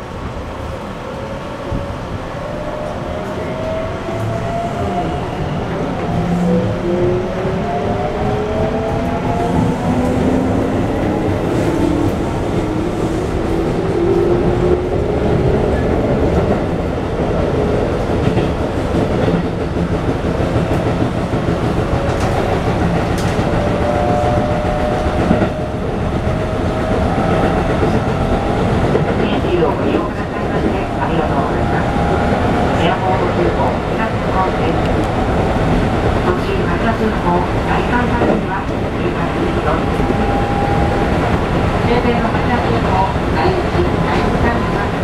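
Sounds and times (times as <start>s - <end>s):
rail joints clickety-clack: 0.0s - 45.0s
wheels rumbling on rail: 0.0s - 45.0s.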